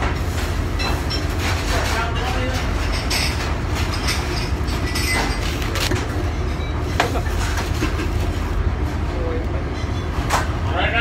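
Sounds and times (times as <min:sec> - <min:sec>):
low rumble of machinery and ventilation: 0:00.0 - 0:11.0.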